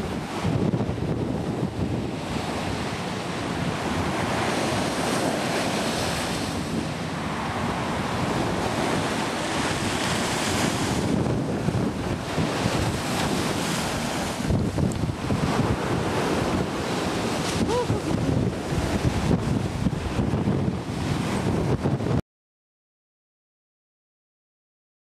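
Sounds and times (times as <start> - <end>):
sea waves washing ashore: 0.0 - 22.2
wind rumbling on microphone: 0.0 - 22.2.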